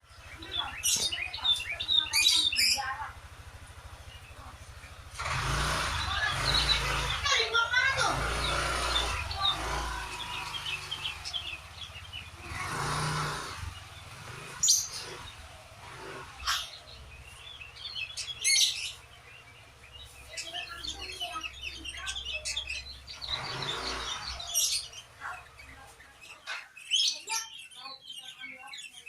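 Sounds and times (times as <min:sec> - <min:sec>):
bird chirping: 0:00.0 - 0:29.0
sharp bird calls: 0:00.0 - 0:29.0.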